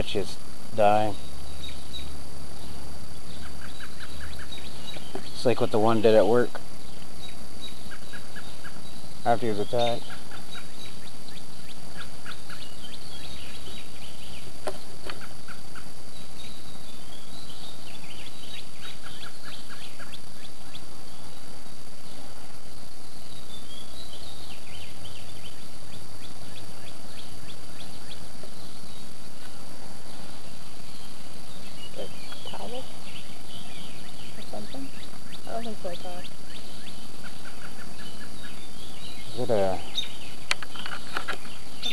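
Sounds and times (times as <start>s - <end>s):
background hiss: 0.0s - 41.9s
songbirds chirping: 0.0s - 41.9s.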